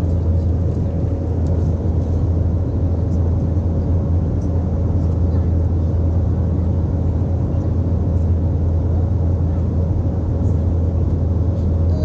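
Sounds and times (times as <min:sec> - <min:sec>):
airliner engine and airflow drone: 0:00.0 - 0:12.0
faint constant hum: 0:00.0 - 0:12.0.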